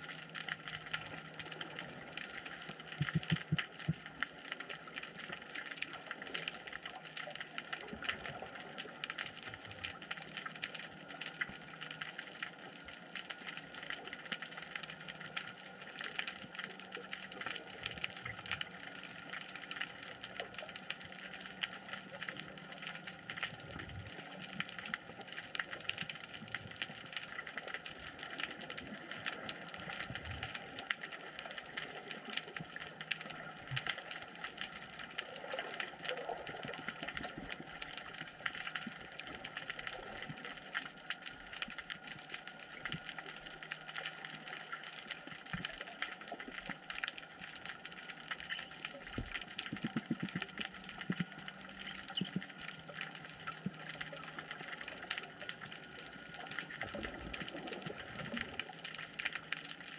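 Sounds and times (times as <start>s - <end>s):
underwater crackle of tiny clicks: 0.0s - 59.9s.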